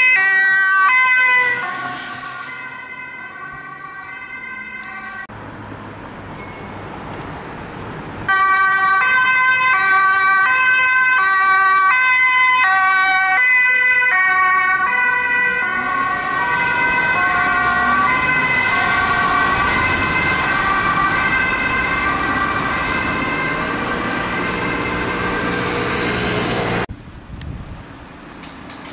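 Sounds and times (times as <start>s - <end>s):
ambulance two-tone siren: 0.0s - 5.3s, 8.3s - 26.9s
traffic noise: 0.0s - 28.9s.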